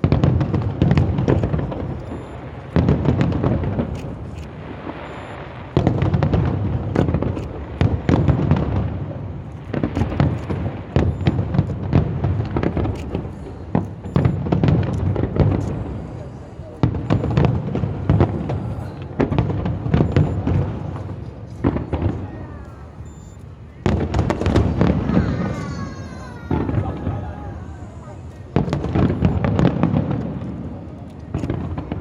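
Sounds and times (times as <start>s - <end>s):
firework crackling: 0.0s - 32.0s
firework shells booming: 0.0s - 32.0s.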